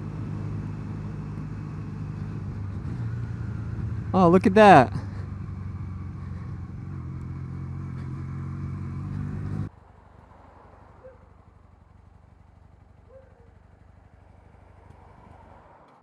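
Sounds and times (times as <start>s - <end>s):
motorcycle engine running: 0.0s - 9.7s, 11.4s - 15.2s.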